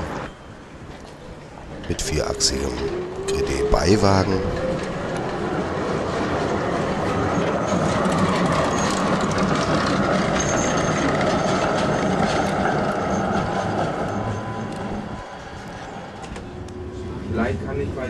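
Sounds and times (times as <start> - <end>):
wheel squeals: 0.0 - 17.1
tram wheels rumbling on rails: 0.0 - 18.0.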